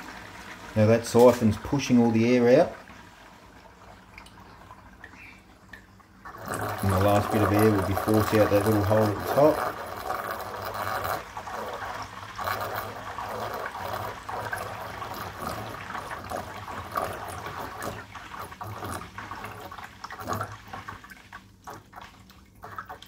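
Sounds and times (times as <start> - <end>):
water gurgling and splashing: 0.0 - 23.0.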